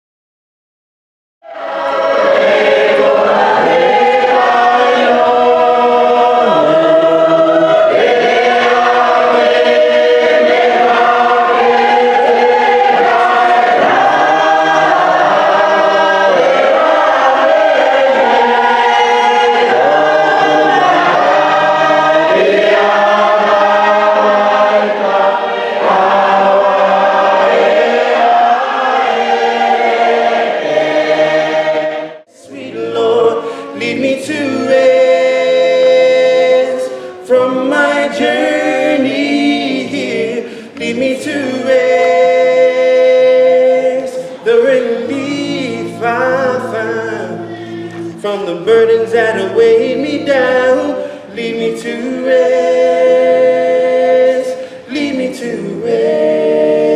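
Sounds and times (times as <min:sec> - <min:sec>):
choir singing a hymn: 0:01.5 - 0:56.9.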